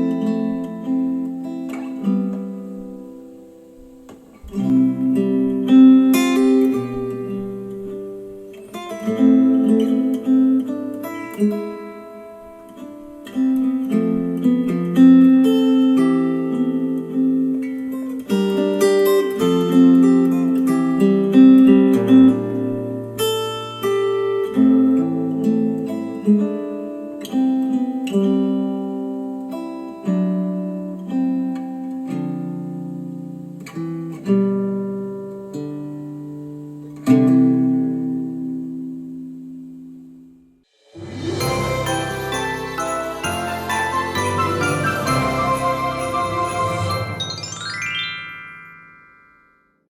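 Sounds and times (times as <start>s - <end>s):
acoustic guitar strumming chords: 0.0s - 49.3s.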